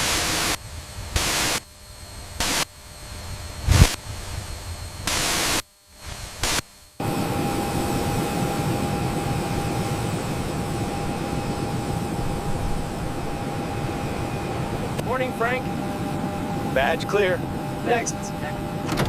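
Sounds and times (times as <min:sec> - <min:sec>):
loud static bursts: 0:00.0 - 0:19.0
steady hum with whine: 0:00.0 - 0:19.0.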